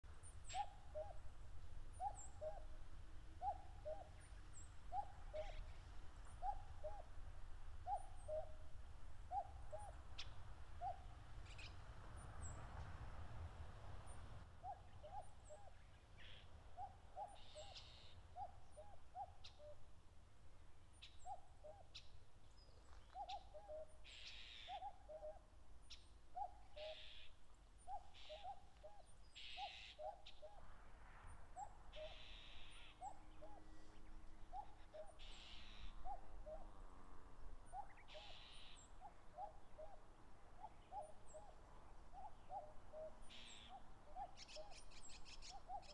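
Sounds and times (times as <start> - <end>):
small birds chirping: 0.1 - 7.1, 7.8 - 12.6, 14.0 - 19.8, 20.9 - 30.6, 31.6 - 36.7, 37.7 - 45.9
cuckoo calling: 0.4 - 1.3, 1.9 - 7.2, 7.8 - 11.8, 14.6 - 19.9, 21.0 - 30.6, 31.6 - 36.8, 37.7 - 45.9.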